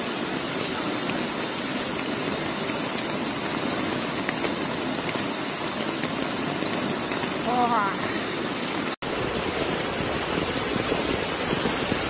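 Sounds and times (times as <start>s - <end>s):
rain drops ticking: 0.0s - 11.7s
floodwater rushing: 0.0s - 12.0s.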